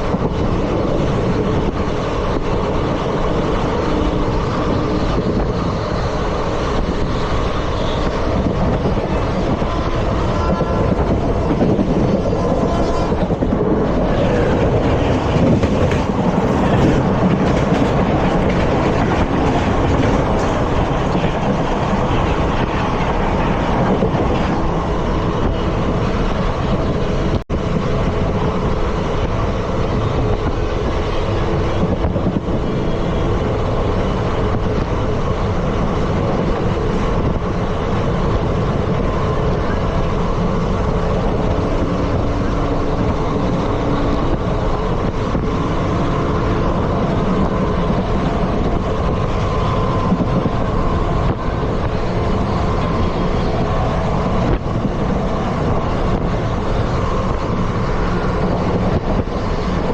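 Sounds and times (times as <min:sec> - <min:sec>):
train wheels rumbling and clattering: 0:00.0 - 0:59.9.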